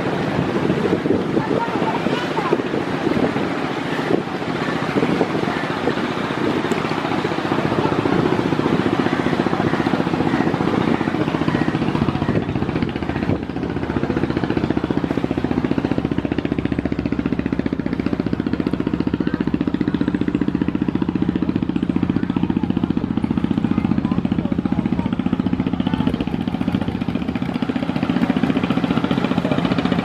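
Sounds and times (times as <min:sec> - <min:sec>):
boat diesel engine running: 0:00.0 - 0:30.0.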